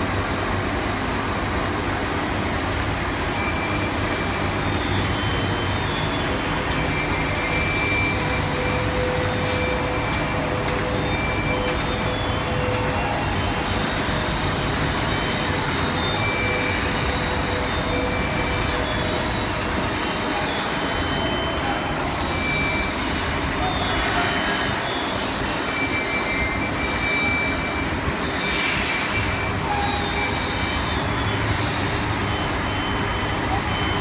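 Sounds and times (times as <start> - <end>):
faint whining tones: 2.8 - 34.0.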